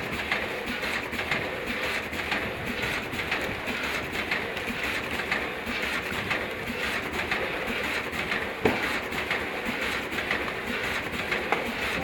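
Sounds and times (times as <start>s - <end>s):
packing machine clattering: 0.0s - 12.0s.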